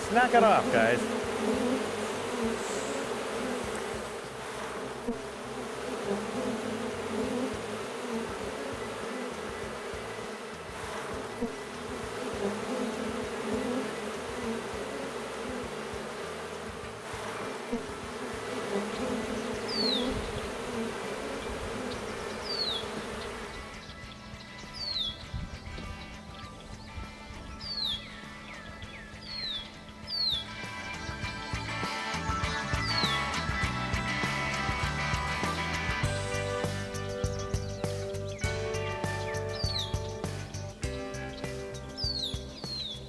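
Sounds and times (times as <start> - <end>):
honeybees buzzing: 0.0 - 43.0.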